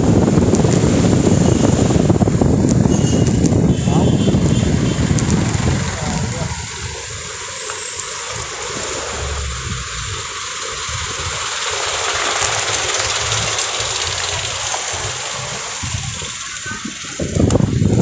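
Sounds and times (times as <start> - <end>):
wind on microphone: 0.0 - 7.5, 8.3 - 18.0
city traffic: 0.0 - 18.0
low uneven rumble: 0.0 - 18.0.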